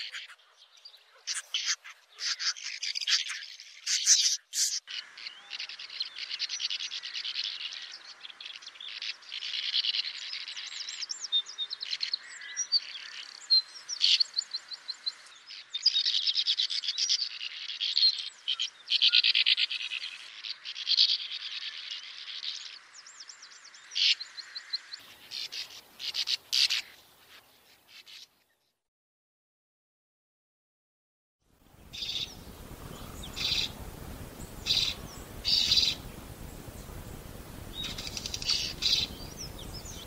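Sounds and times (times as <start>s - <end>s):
swallows twittering: 0.0s - 28.6s, 31.8s - 40.0s.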